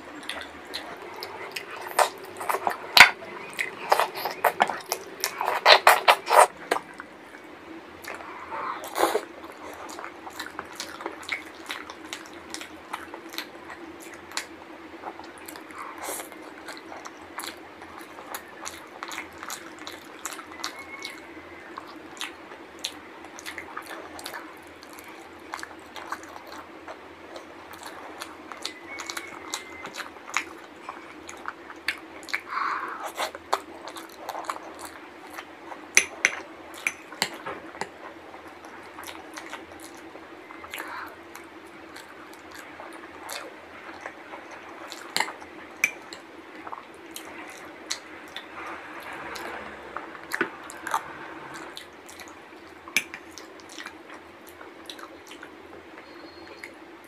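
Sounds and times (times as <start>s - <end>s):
wet chewing and slurping: 0.0s - 56.7s
faint low hum: 0.0s - 57.0s.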